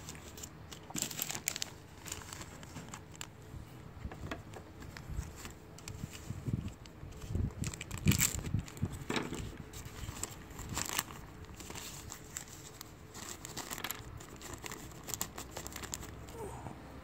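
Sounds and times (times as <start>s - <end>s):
plastic bag crinkling: 0.0s - 3.4s, 4.8s - 16.5s.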